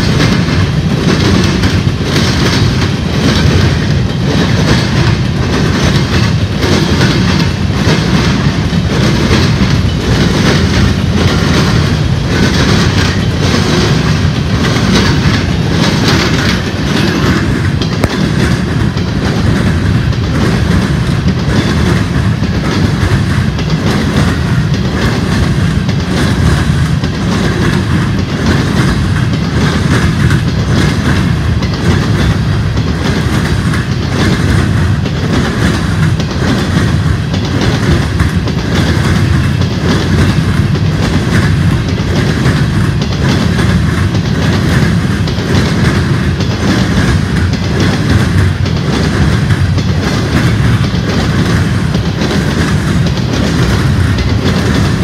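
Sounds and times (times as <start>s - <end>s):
freight train wheels rumbling: 0.0s - 55.0s
wheels clickety-clack on track: 0.0s - 55.0s.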